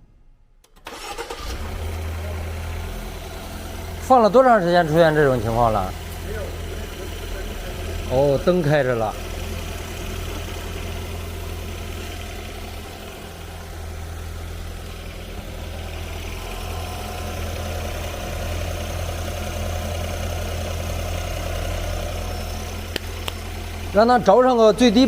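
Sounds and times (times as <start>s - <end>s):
car engine idling: 0.8s - 25.0s.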